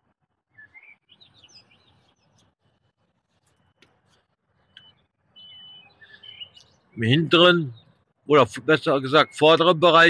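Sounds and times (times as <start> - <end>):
songbird chirping: 0.3 - 10.0.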